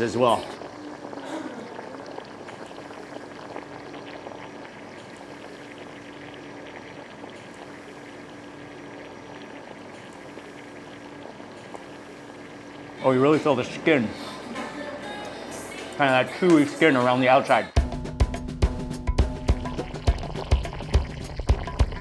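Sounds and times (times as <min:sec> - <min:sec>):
broth boiling with crackling bubbles: 0:00.0 - 0:16.3, 0:19.3 - 0:22.0.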